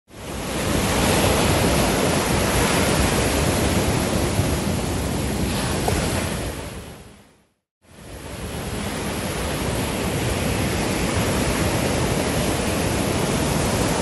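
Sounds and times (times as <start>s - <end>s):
waves breaking and washing in: 0.1s - 14.0s.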